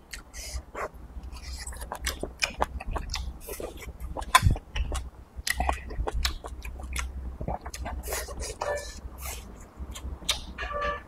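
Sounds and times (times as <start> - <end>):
close chewing wet clicks: 1.2 - 10.5.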